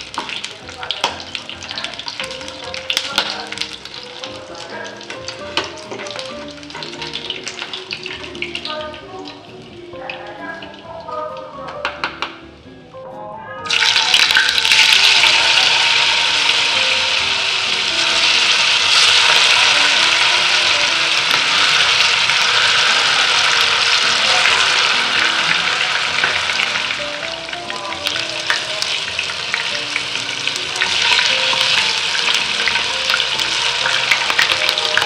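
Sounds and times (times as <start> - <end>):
tofu sizzling in hot oil: 0.0 - 9.6, 13.7 - 35.0.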